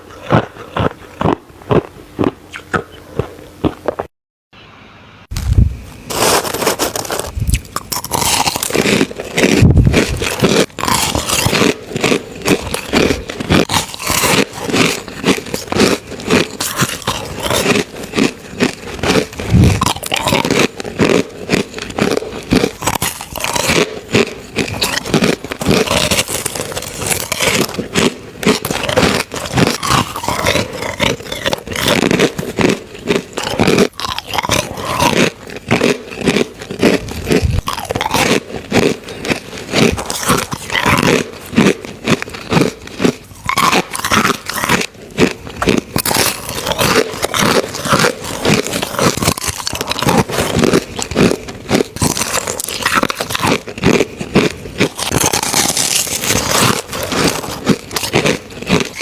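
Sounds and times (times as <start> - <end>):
chewing crushed ice: 0.0 - 4.1, 5.4 - 59.0.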